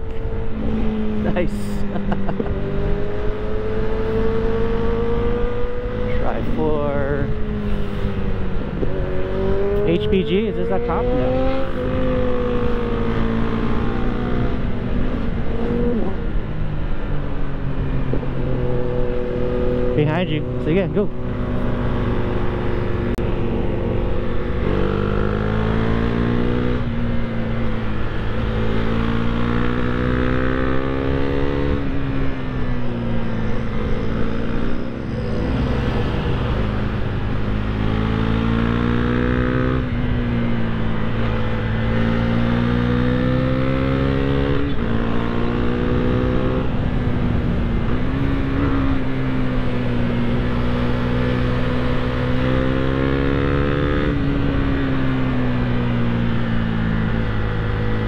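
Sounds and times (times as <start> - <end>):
motorcycle engine revving: 0.0 - 16.5, 18.0 - 58.0.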